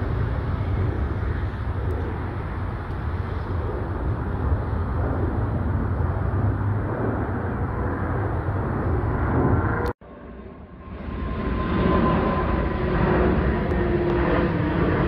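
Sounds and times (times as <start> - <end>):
jet airliner engines rumbling: 0.0 - 15.0.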